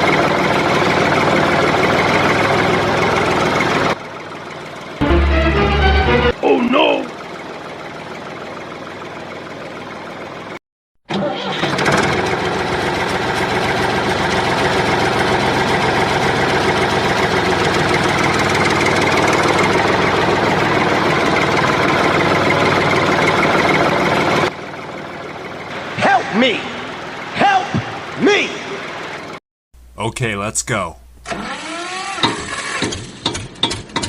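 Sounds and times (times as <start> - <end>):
engine starting and running: 0.0 - 29.9, 31.2 - 34.0.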